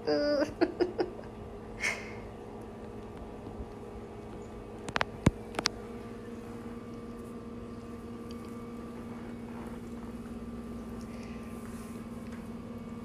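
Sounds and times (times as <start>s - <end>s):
household appliance humming: 0.0s - 13.0s.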